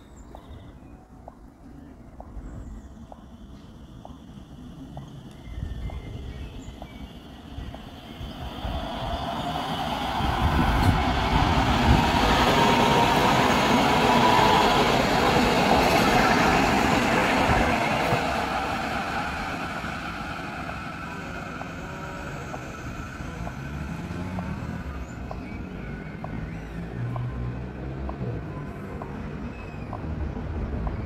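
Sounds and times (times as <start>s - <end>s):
train wheels rumbling on rails: 2.1s - 31.0s.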